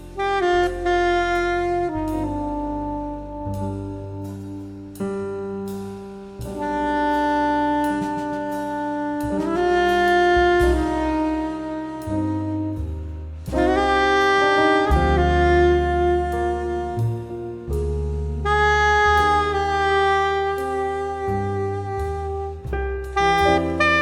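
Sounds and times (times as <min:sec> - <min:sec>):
soprano saxophone melody: 0:00.0 - 0:04.9, 0:06.5 - 0:24.0
double bass: 0:00.0 - 0:24.0
piano: 0:00.0 - 0:24.0.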